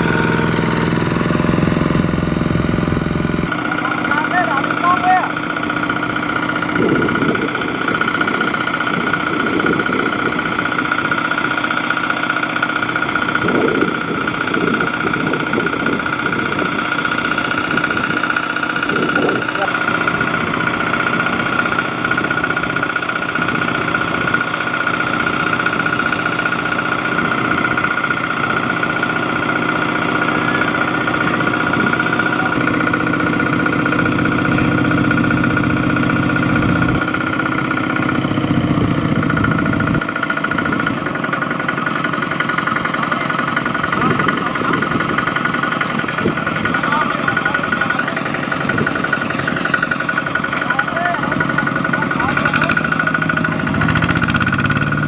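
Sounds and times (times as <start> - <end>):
deeper engine note: 0.0 - 55.0
tractor engine running: 0.0 - 55.0.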